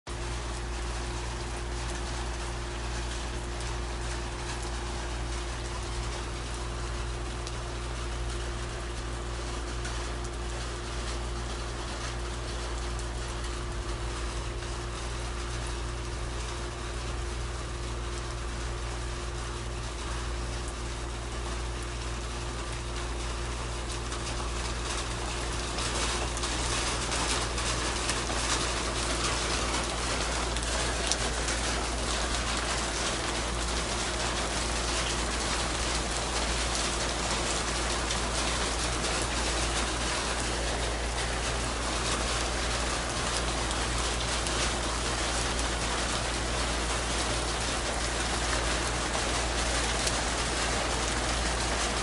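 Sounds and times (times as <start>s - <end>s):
rain pattering on metal: 0.1s - 52.0s.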